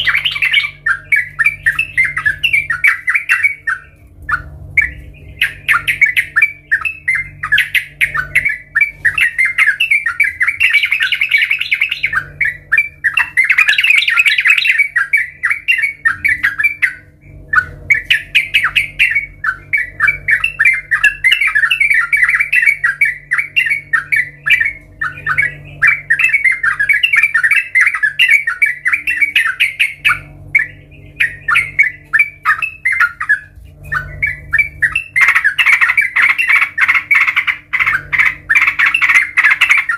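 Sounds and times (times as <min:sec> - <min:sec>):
bird singing bubbly chattering notes: 0:00.0 - 0:39.9
faint low hum: 0:00.0 - 0:39.9.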